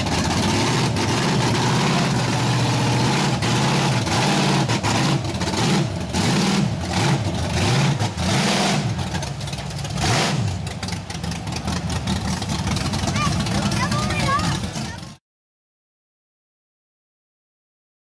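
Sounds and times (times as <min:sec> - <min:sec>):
truck engine revving: 0:00.0 - 0:15.2.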